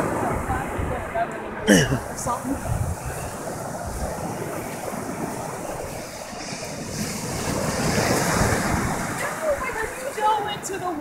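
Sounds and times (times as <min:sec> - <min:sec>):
ocean surf washing ashore: 0:00.0 - 0:11.0
wind rumbling on microphone: 0:00.0 - 0:11.0.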